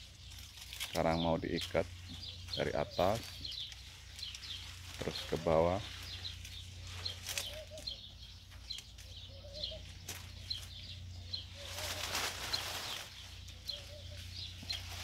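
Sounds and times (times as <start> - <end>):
rustling: 0.0 - 15.0
small birds chirping: 0.0 - 15.0.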